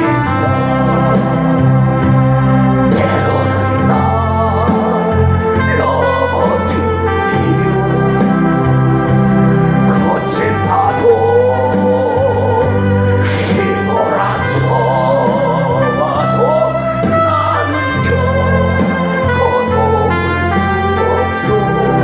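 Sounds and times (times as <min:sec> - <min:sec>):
organ-like keyboard chords: 0:00.0 - 0:22.0
voices singing a hymn: 0:00.0 - 0:22.0.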